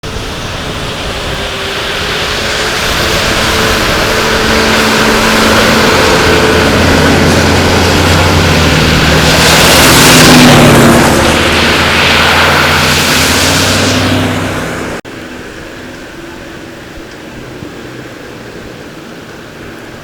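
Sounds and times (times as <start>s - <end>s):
vehicle engine hum approaching: 0.0s - 20.0s.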